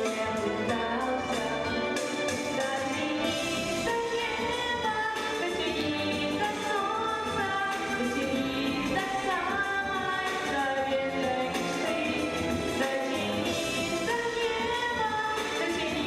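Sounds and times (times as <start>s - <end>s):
children's group singing: 0.0s - 16.0s
instrumental accompaniment: 0.0s - 16.0s.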